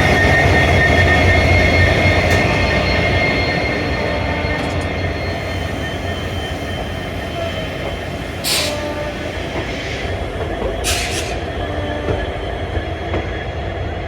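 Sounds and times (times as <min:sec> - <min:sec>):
passenger train rumbling: 0:00.0 - 0:14.0
faint whining tones: 0:00.1 - 0:13.0.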